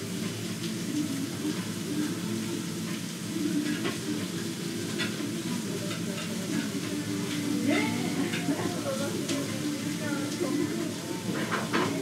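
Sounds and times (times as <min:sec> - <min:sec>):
food frying sizzle: 0:00.0 - 0:12.0.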